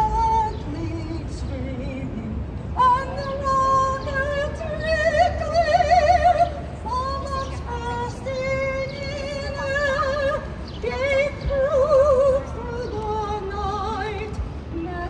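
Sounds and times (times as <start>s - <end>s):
woman singing with vibrato: 0.0s - 15.0s.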